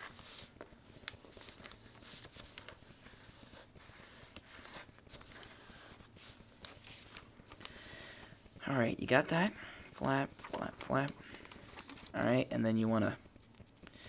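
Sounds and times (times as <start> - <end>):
paper being folded and creased: 0.0 - 8.6, 9.9 - 12.4, 13.1 - 14.0.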